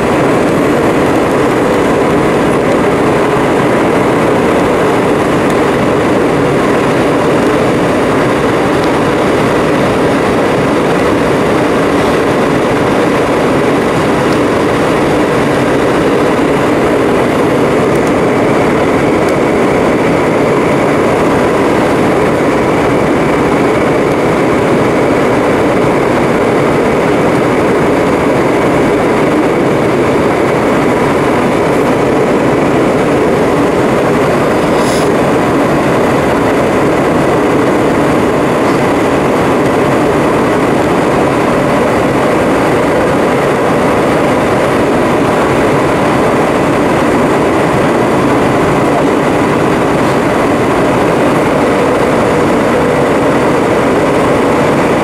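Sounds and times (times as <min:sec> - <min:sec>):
high whine: 0:00.0 - 0:55.0
jet engine cabin noise: 0:00.0 - 0:55.0
rush of airflow: 0:00.0 - 0:55.0.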